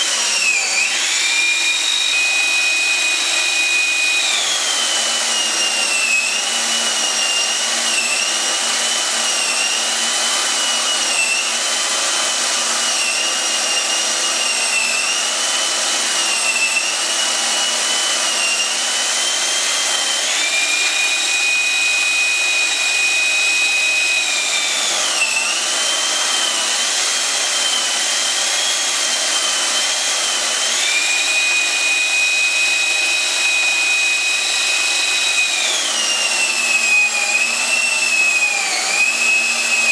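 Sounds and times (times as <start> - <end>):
electric drill motor whining: 0.0 - 39.9.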